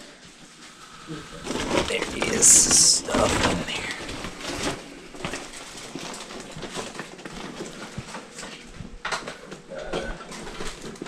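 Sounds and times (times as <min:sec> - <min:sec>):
items handled in a box: 0:00.5 - 0:09.6.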